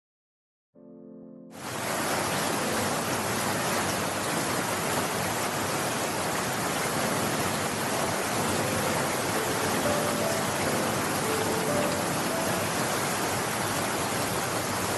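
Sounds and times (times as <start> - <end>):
stream rushing over rocks: 1.6 - 14.9.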